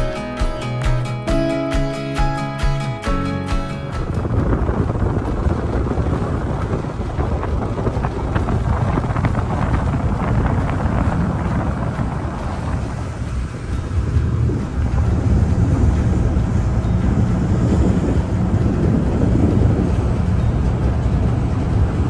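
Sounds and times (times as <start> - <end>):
ferry engine rumble: 0.0 - 22.0
wind rushing over microphone: 3.7 - 22.0.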